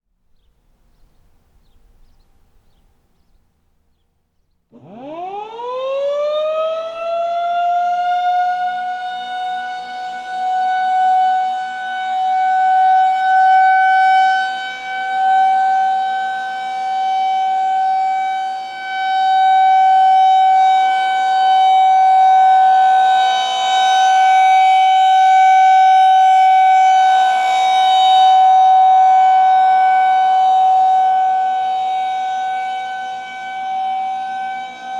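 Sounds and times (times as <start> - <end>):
warning siren winding up: 4.7 - 34.9.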